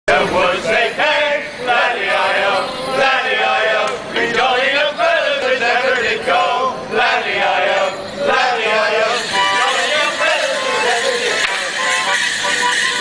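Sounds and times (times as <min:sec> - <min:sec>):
men singing chant-like song: 0:00.1 - 0:12.4.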